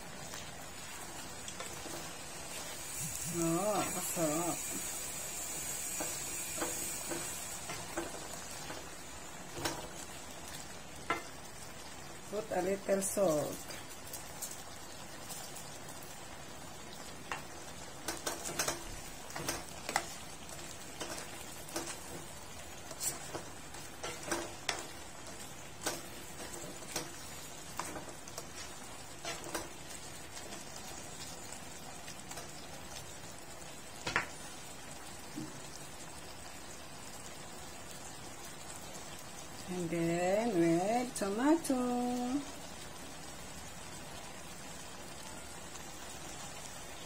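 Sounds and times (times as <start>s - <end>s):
shrimp sizzling in a pan: 0.0s - 47.0s.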